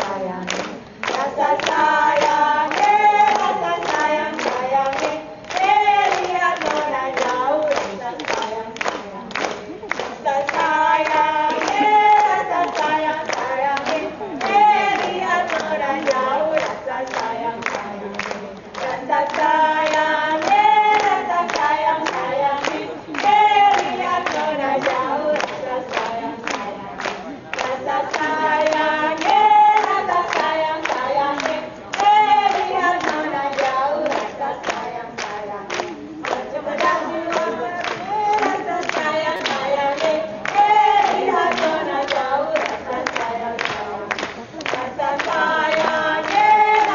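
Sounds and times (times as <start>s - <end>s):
group singing without instruments: 0.0s - 46.9s.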